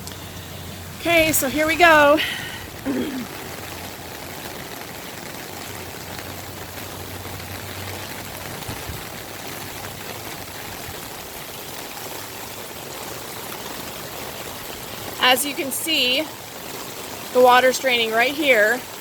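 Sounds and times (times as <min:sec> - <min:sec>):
floodwater draining: 0:00.0 - 0:19.0
heavy rain: 0:00.0 - 0:19.0.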